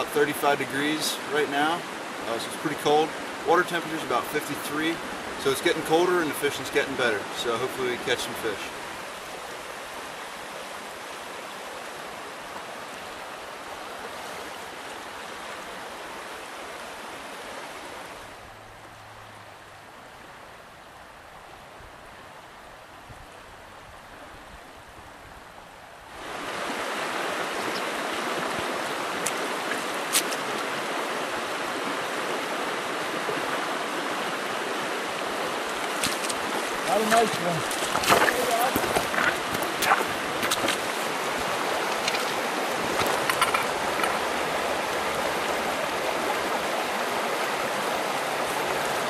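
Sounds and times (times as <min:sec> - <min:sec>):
creek water rushing over stones: 0:00.0 - 0:49.0.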